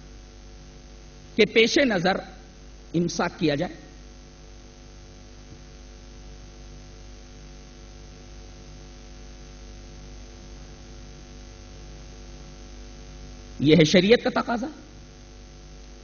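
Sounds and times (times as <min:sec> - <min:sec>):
constant hiss: 0:00.0 - 0:16.0
electrical mains hum: 0:00.0 - 0:16.0.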